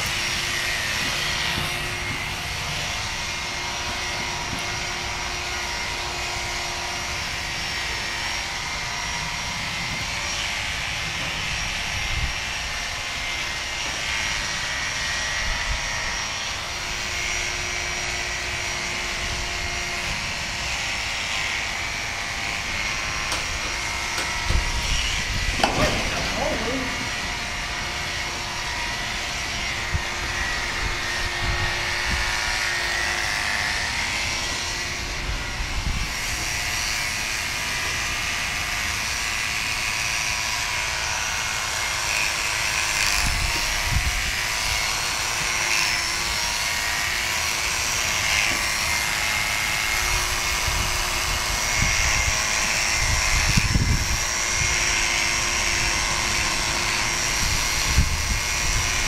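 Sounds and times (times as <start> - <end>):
electric clippers buzzing: 0.0 - 59.0.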